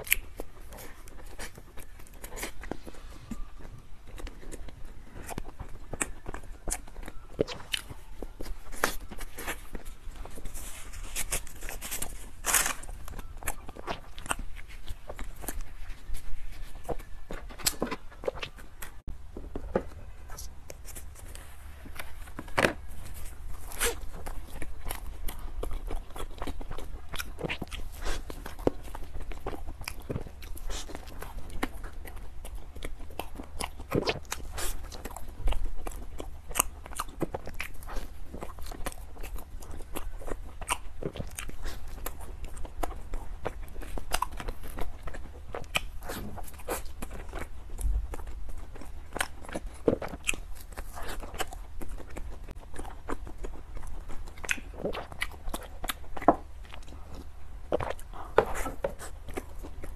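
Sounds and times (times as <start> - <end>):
chewing soft bread: 0.0 - 59.9.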